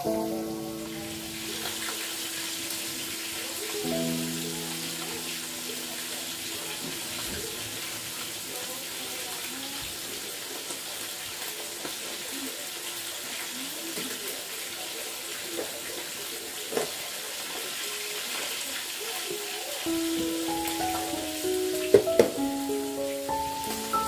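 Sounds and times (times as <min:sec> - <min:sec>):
tap water running into sink: 0:00.0 - 0:17.8, 0:19.9 - 0:24.0.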